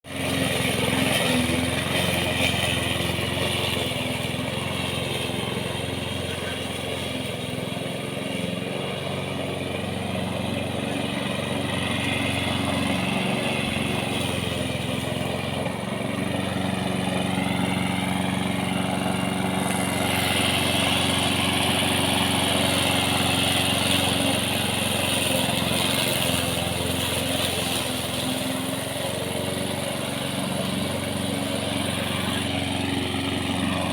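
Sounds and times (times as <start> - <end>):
engine running steadily: 0.1 - 33.9.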